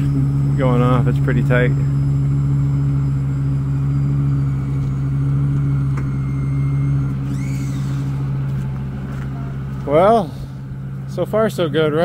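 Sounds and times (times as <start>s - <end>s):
motorhome mechanical hum: 0.0s - 12.0s.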